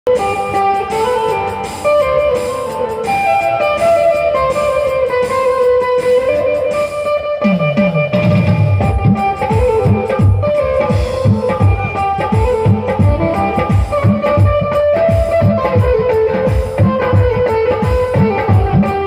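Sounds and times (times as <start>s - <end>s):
plucked electric guitar melody: 0.0s - 19.0s.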